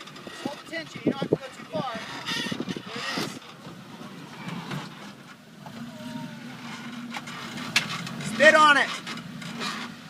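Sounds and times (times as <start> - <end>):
vehicle engine running at low revs: 0.0 - 10.0.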